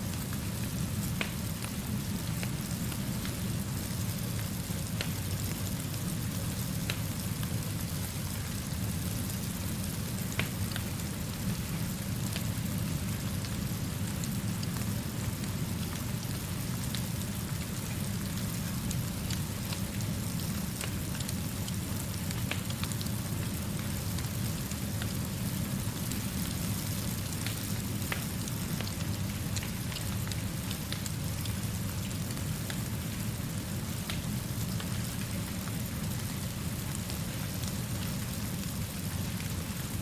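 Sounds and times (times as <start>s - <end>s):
steady rain falling: 0.0s - 40.0s
fire crackling and popping: 0.2s - 40.0s.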